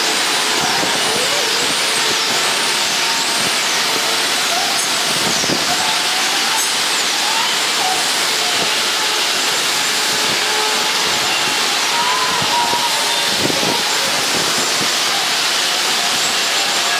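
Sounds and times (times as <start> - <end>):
loud hiss: 0.0 - 16.9.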